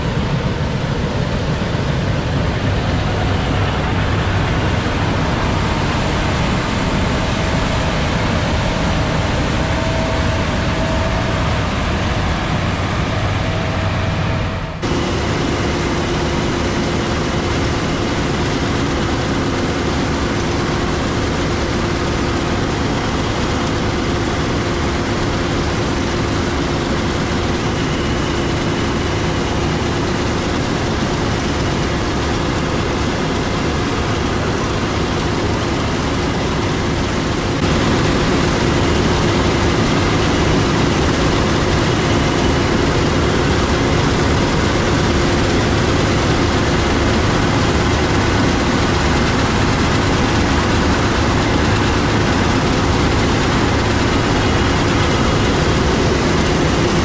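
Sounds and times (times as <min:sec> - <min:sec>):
harvest machinery engine drone: 0:00.0 - 0:57.0.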